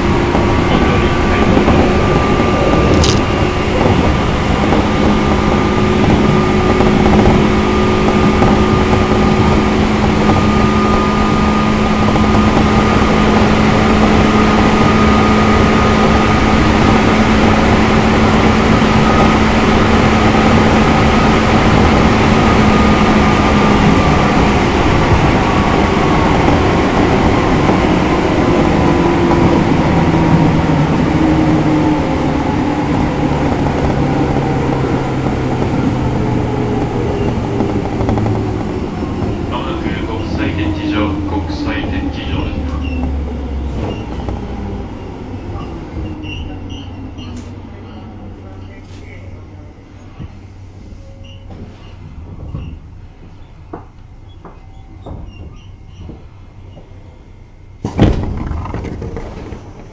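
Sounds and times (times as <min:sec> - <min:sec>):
train wheel and rail noise: 0:00.0 - 0:59.9.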